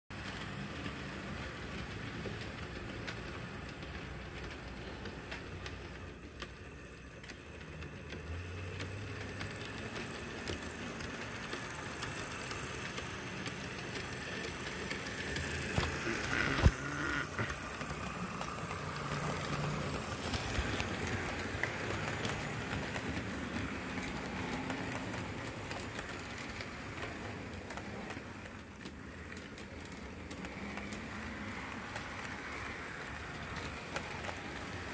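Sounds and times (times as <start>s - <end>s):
model train motor humming: 0.2s - 34.9s
wheels clicking over rail joints: 0.2s - 34.9s.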